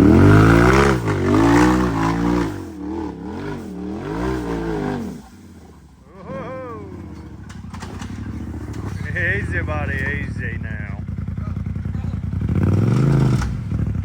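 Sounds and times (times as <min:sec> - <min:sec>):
utility vehicle engine revving: 0:00.0 - 0:14.0.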